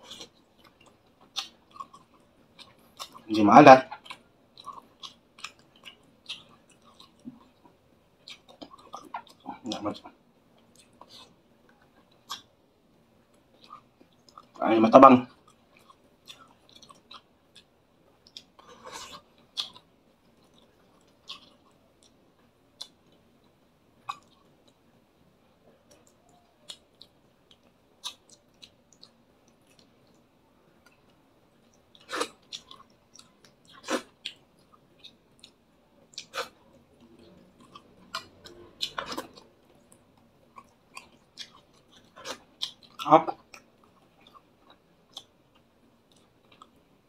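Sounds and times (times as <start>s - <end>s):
open-mouth chewing: 0.0s - 3.3s, 3.9s - 12.6s, 15.3s - 24.8s, 25.7s - 46.8s.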